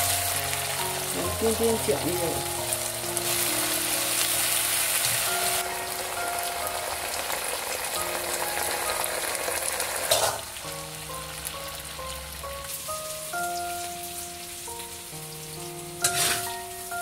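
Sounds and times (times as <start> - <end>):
meat sauce sizzling in a wok: 0.0 - 17.0.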